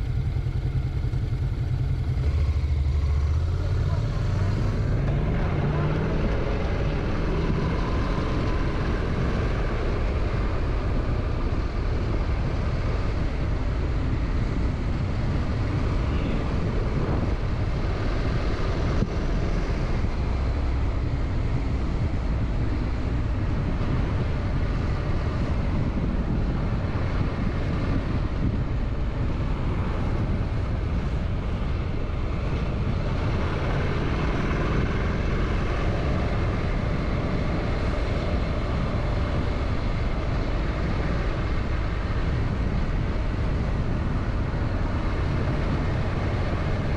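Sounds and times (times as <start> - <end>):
motorcycle engine cruising: 0.0 - 46.9
wind and road noise: 0.0 - 46.9.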